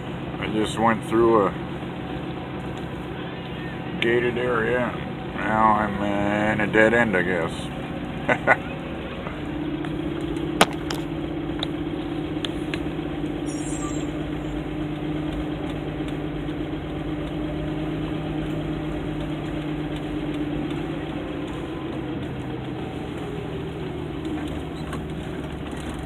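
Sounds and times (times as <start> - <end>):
van engine running: 0.0 - 26.0.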